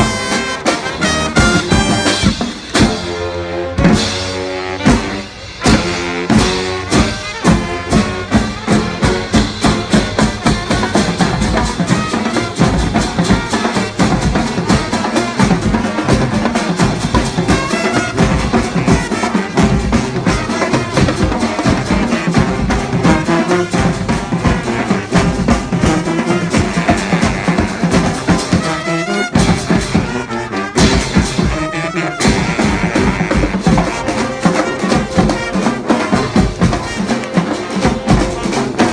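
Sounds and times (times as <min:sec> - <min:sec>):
brass horns: 0:00.0 - 0:38.9
steady drum beat: 0:00.0 - 0:38.9.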